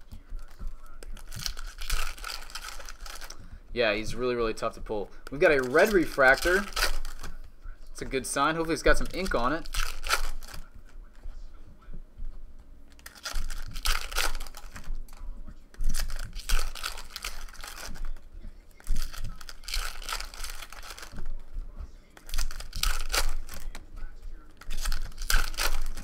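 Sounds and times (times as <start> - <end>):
foil wrappers crinkling and tearing: 0.0 - 3.4, 4.0 - 10.7, 12.9 - 26.0.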